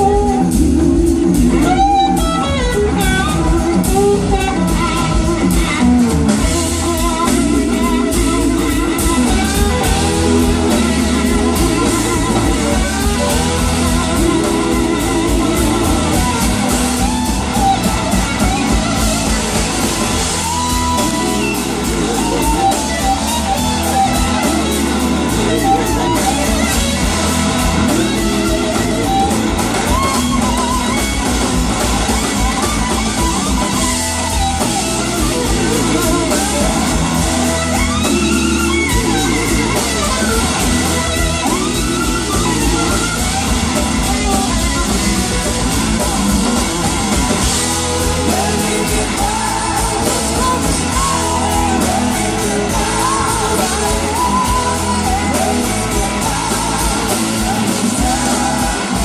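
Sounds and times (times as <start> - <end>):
bass: 0.0 - 59.0
drum kit: 0.0 - 59.0
electric guitar: 0.0 - 59.0.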